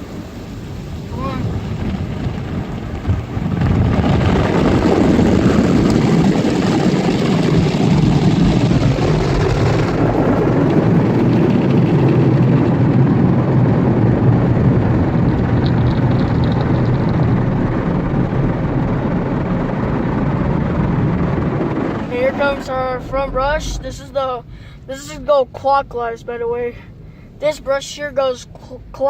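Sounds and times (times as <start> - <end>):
car wash brushes rumbling: 0.0 - 26.4.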